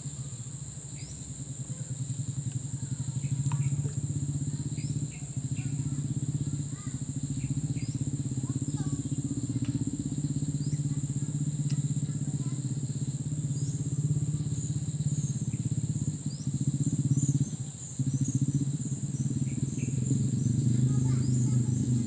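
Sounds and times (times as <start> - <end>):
insects trilling: 0.0 - 22.0
low pulsing drone: 0.0 - 22.0.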